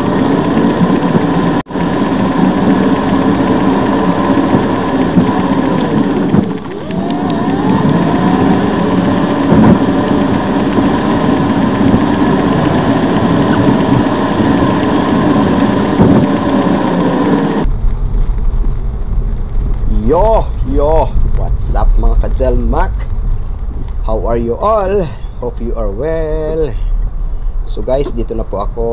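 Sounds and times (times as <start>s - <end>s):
car engine running: 0.0s - 28.9s
low hum: 0.0s - 28.9s.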